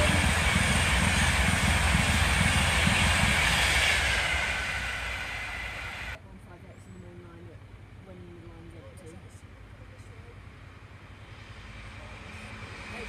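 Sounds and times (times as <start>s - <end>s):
high-speed train passing: 0.0s - 13.0s.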